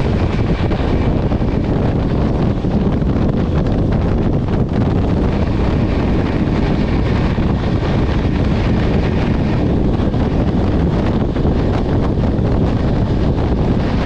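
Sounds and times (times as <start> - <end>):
train rushing at speed: 0.0 - 14.0
wind buffeting microphone: 0.0 - 14.0.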